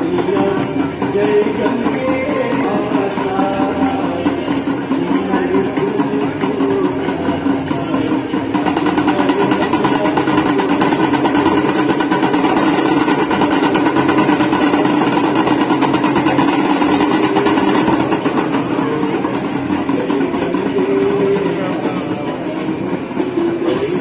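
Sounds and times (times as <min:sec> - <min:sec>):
rapid clanging of bells and percussion: 0:00.0 - 0:24.0.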